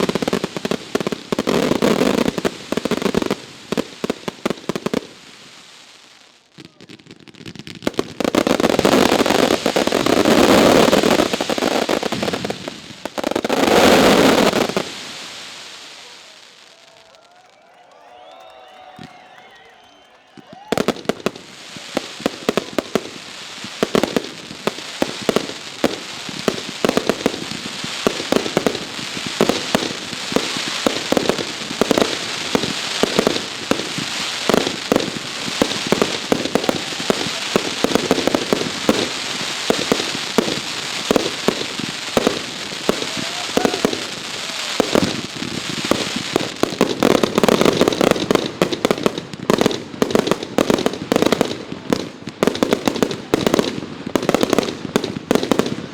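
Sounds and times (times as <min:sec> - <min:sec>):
fireworks bursting and crackling: 0:00.0 - 0:55.9.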